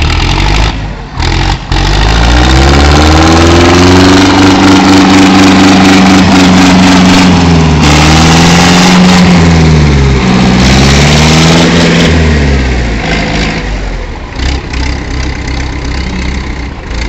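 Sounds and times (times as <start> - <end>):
tractor engines straining: 0.0 - 17.0.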